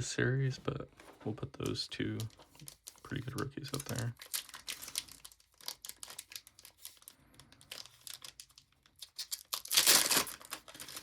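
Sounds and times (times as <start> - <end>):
wrapper crinkling: 2.1 - 11.0.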